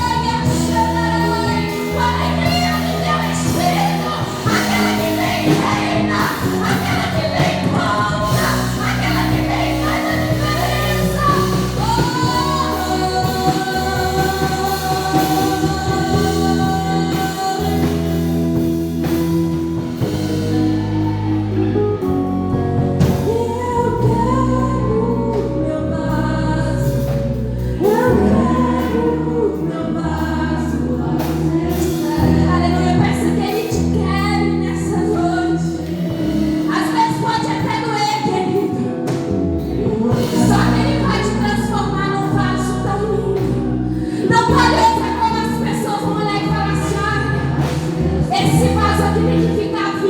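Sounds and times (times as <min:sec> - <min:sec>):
gospel singing: 0:00.0 - 0:50.0
steady bass line: 0:00.0 - 0:50.0
sustained keyboard chords: 0:00.0 - 0:50.0.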